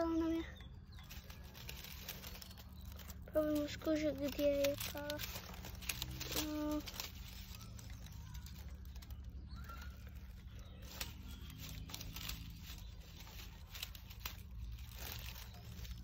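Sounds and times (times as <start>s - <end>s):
dry leaves rustling and crackling: 0.0s - 16.0s.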